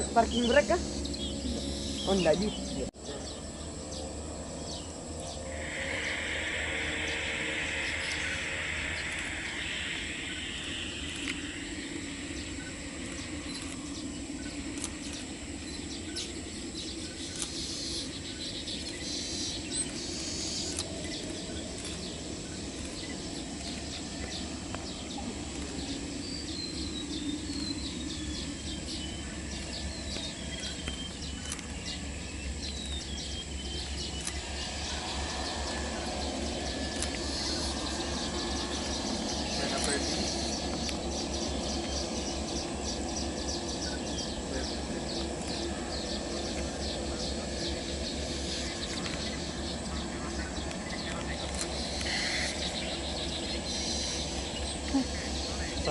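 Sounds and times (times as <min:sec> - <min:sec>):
birds chirping: 0:00.0 - 0:55.9
steady low rumble: 0:00.0 - 0:55.9.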